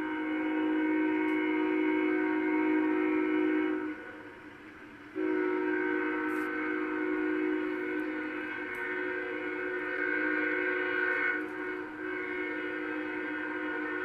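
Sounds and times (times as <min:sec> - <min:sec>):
locomotive air horn blasts: 0:00.0 - 0:04.6, 0:05.2 - 0:14.0.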